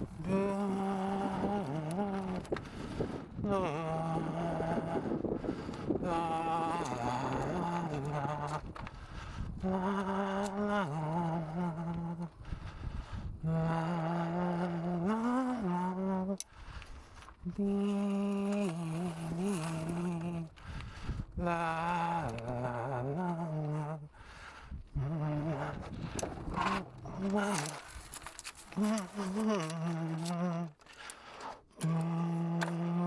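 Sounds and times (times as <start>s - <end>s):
person humming: 0.0s - 2.6s, 3.3s - 5.3s, 5.9s - 8.8s, 9.6s - 12.4s, 13.4s - 16.5s, 17.4s - 20.6s, 21.4s - 24.2s, 24.8s - 33.0s.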